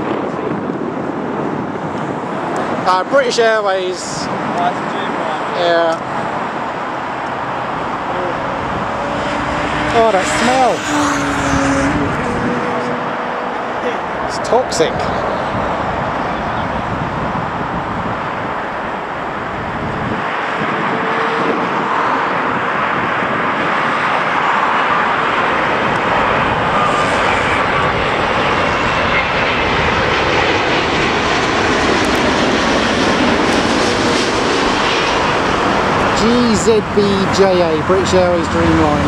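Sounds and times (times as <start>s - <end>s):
jet aircraft passing overhead: 0.0s - 39.0s.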